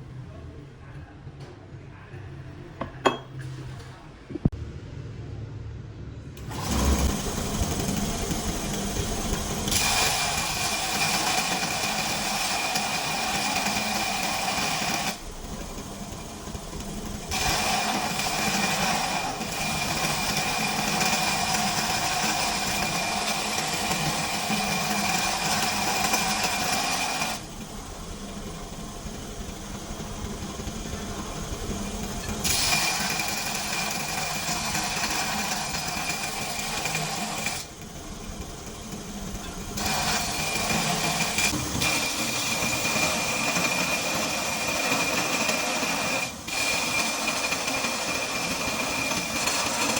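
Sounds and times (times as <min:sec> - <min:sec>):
belt grinder whining: 0:06.4 - 0:49.9.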